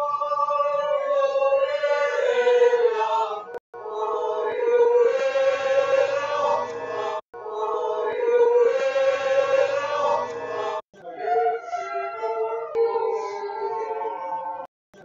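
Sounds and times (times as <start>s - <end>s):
choir-like singing on held notes: 0.0s - 14.7s.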